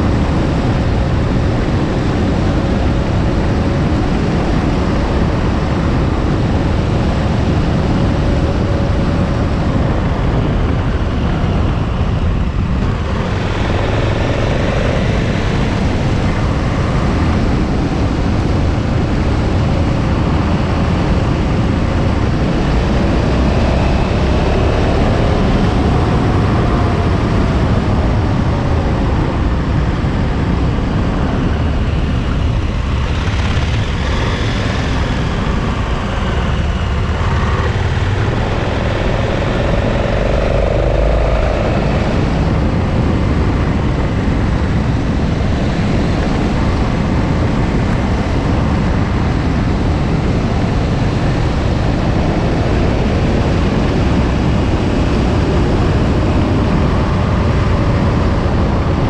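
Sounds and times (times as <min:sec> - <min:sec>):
motorcycle engine running: 0:00.0 - 0:59.0
road noise: 0:00.0 - 0:59.0
wind rumble: 0:00.0 - 0:59.0.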